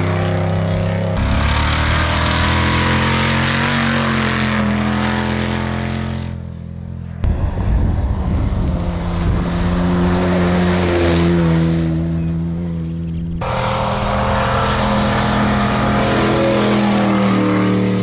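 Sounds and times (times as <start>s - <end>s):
loud engine revving up: 0.0s - 6.5s, 7.2s - 18.0s
race vehicle engines running: 0.0s - 18.0s.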